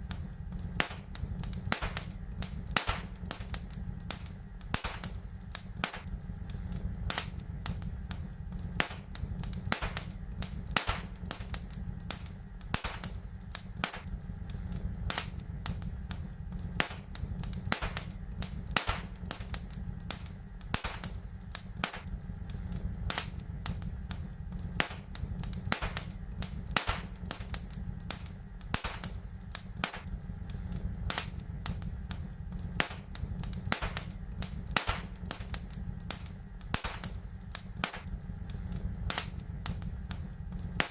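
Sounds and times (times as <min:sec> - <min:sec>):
low rumble: 0:00.0 - 0:40.9
wood fire crackling and popping: 0:00.0 - 0:40.9.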